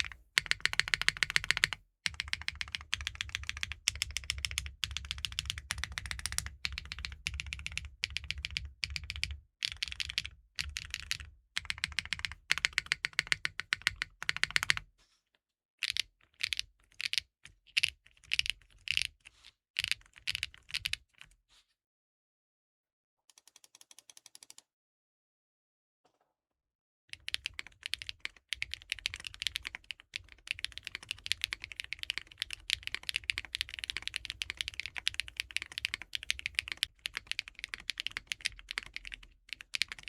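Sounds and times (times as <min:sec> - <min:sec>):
fast mechanical keyboard typing: 0:00.0 - 0:14.8, 0:15.8 - 0:19.2, 0:19.8 - 0:21.1, 0:27.2 - 0:40.0.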